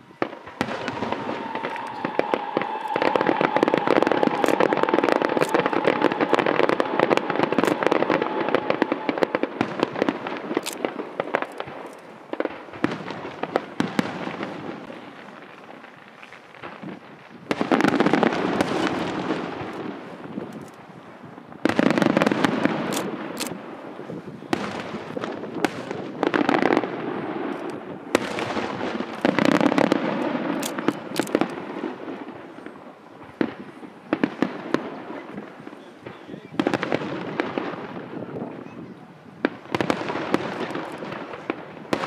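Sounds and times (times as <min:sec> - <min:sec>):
firework booms: 0:00.0 - 0:42.0
firework crackling pops: 0:00.0 - 0:42.0.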